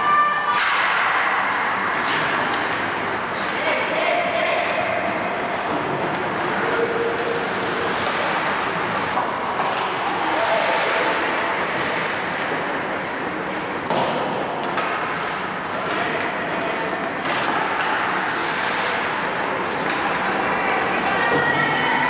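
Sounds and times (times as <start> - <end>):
steady wash of rink noise: 0.5 - 22.0.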